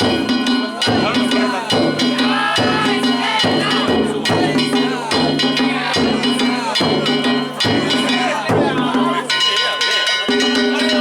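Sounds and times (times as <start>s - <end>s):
crowd calling out: 0.0s - 11.0s
drum beating rhythm: 0.0s - 11.0s.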